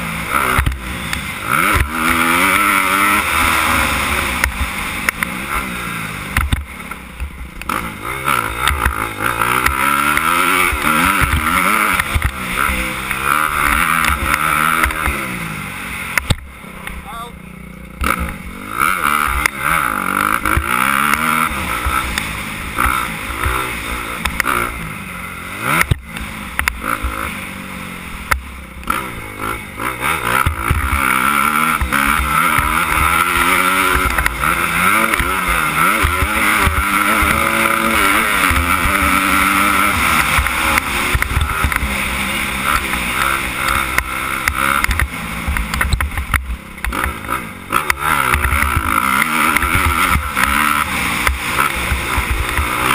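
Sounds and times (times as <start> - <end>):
motorbike engine revving: 0.0 - 52.9.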